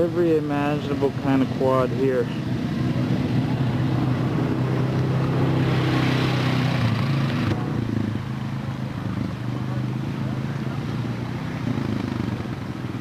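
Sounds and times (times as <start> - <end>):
atv engines droning: 0.0 - 13.0.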